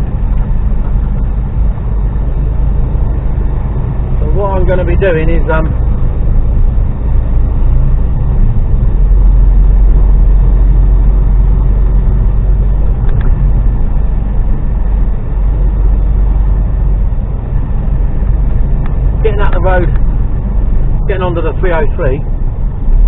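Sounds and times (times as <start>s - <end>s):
lorry diesel engine rumble: 0.0s - 23.0s
road noise: 0.0s - 23.0s.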